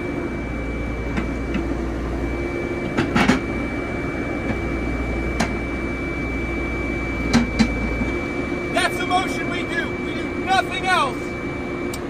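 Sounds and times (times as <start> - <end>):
thin steady high tone: 0.0 - 11.9
excavator engine humming: 0.0 - 12.0.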